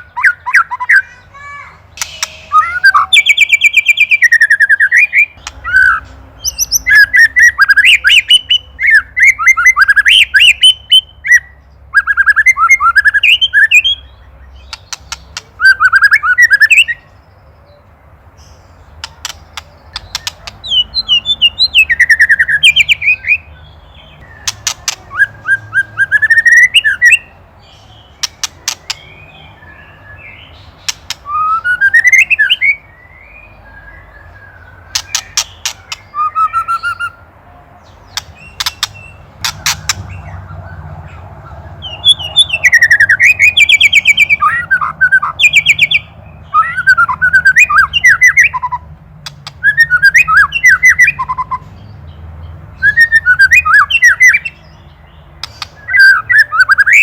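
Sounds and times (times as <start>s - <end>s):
bird whistling songs: 0.0s - 1.2s, 1.9s - 57.0s.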